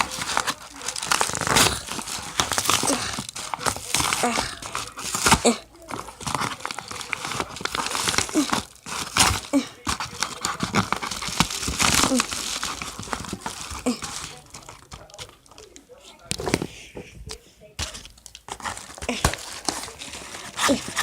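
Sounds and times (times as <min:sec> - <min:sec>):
packaging crinkling and ripping: 0:00.0 - 0:16.7, 0:17.8 - 0:21.0.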